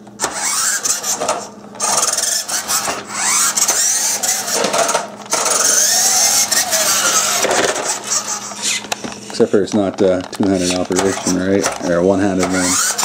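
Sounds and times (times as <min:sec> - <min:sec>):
toy truck electric motor whine: 0:00.2 - 0:09.0, 0:10.5 - 0:13.0.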